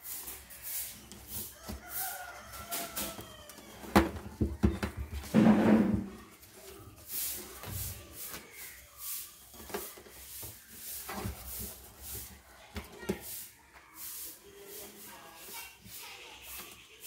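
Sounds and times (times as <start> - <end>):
leaf parcel rustling and crackling: 0.0 - 16.2.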